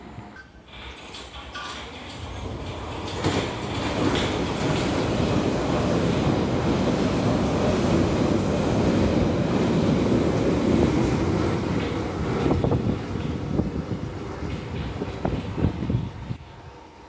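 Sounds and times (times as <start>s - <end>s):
train wheels rumbling on rails: 0.6s - 17.0s.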